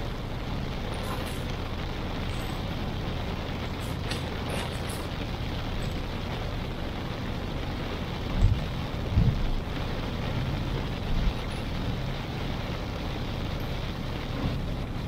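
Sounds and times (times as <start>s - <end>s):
car driving rumble: 0.0s - 15.0s
heavy rain hissing: 0.0s - 15.0s
wet road noise: 0.0s - 15.0s.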